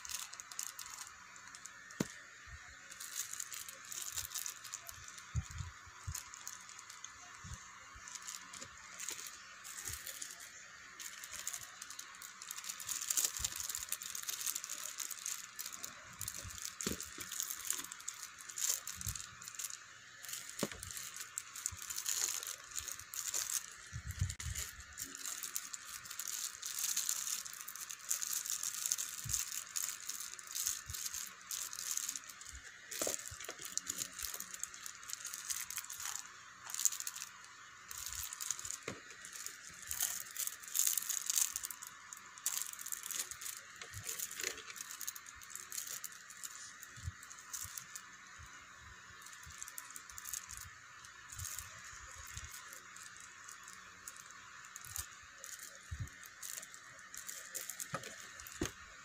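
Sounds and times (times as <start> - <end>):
plastic packaging crinkling: 0.0 - 59.0.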